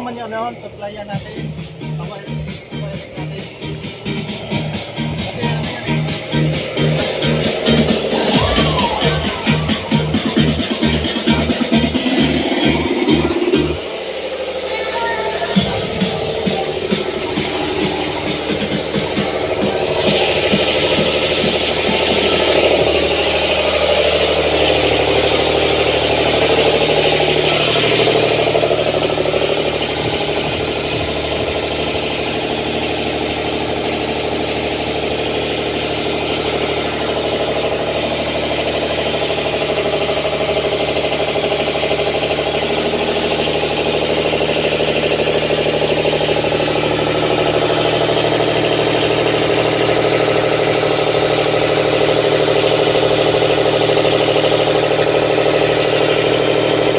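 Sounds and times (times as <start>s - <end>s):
generator engine humming: 0.0s - 56.9s.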